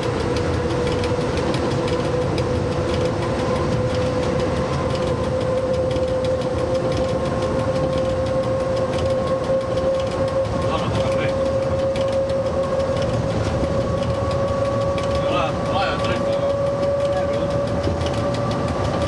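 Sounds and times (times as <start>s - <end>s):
electric locomotive whine: 0.0s - 19.0s
passing train rushing: 0.0s - 19.0s.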